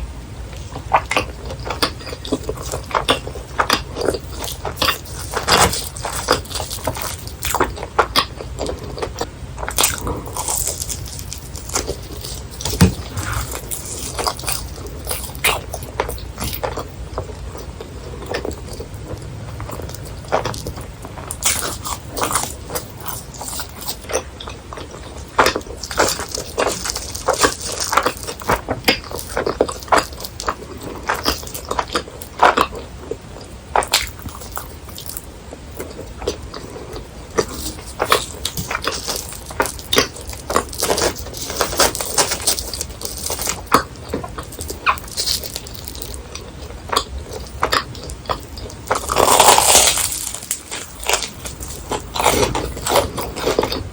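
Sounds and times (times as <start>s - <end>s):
chewing crispy snack: 0.5s - 53.9s.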